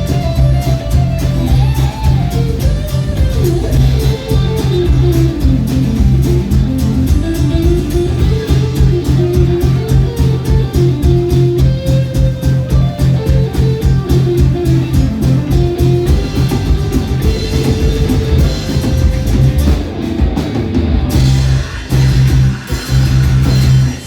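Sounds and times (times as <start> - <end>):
guitar melody with gliding notes: 0.0 - 22.2
bass line: 0.0 - 24.0
drum beat: 0.0 - 24.0.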